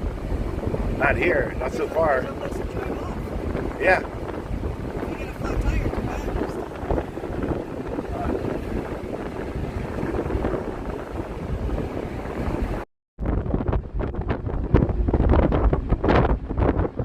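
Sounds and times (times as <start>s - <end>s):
road and wind noise from car: 0.0s - 17.0s
wind buffeting microphone: 0.0s - 17.0s.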